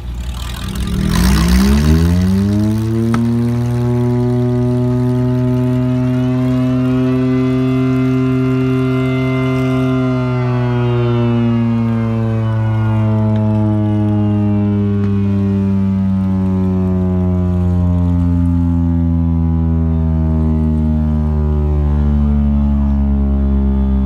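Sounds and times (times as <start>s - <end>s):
air raid siren winding down: 0.0s - 24.0s.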